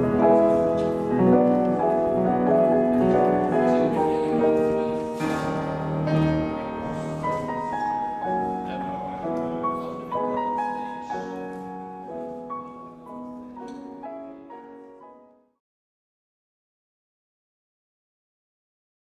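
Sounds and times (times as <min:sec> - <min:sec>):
classical piano music: 0:00.0 - 0:15.6.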